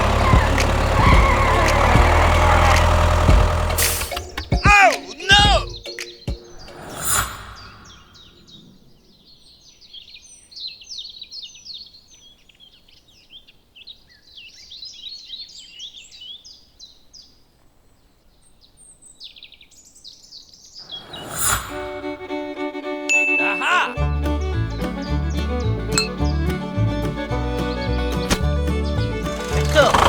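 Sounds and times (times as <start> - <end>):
small birds chirping: 0.0 - 22.4, 23.3 - 30.0.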